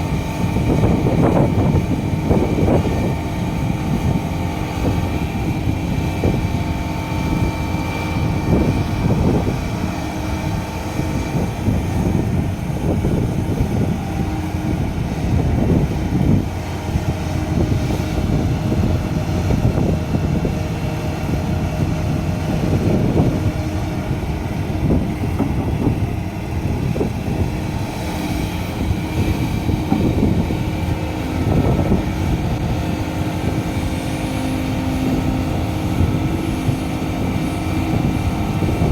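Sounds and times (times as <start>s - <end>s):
dump truck diesel engine running: 0.0s - 38.9s
excavator diesel engine running: 0.0s - 38.9s.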